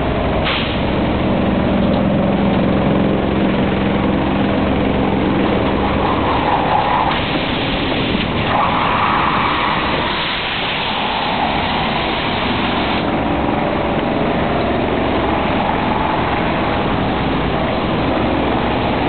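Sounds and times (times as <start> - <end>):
machinery running: 0.0 - 19.0.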